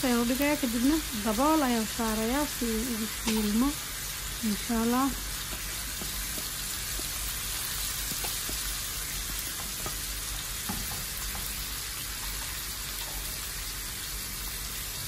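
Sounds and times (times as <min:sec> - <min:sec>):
chicken sizzling in butter: 0:00.0 - 0:15.0.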